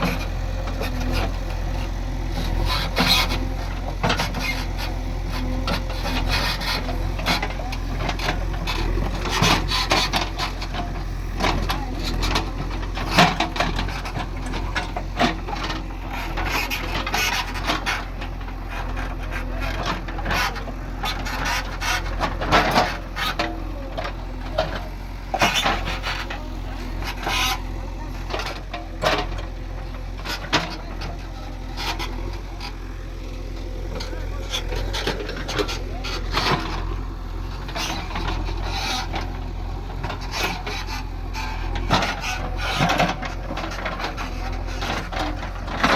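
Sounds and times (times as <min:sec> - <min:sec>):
sharp knocks and scraping: 0:00.0 - 0:32.9, 0:33.5 - 0:45.9
diesel engine running: 0:00.0 - 0:45.9.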